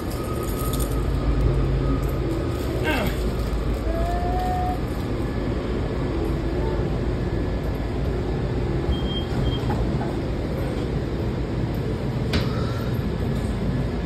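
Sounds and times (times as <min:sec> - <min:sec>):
railcar rumble and hum: 0:00.0 - 0:14.0.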